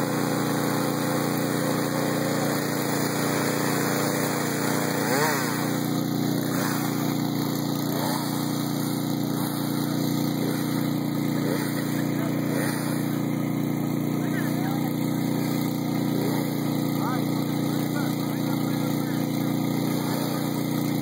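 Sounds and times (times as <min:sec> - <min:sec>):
chainsaw engine idling: 0:00.0 - 0:21.0.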